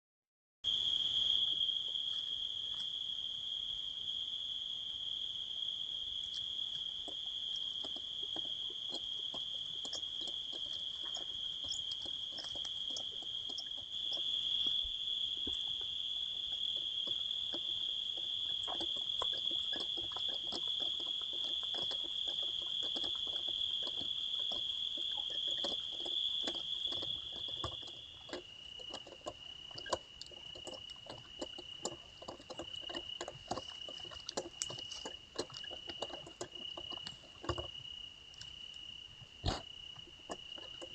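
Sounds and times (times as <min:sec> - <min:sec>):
insects trilling: 0:00.7 - 0:40.9.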